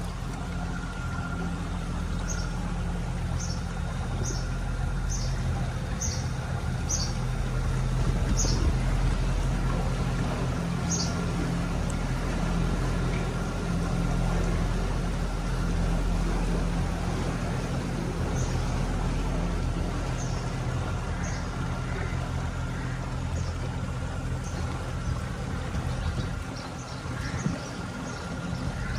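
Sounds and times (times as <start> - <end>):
boat motor humming: 0.0 - 28.9.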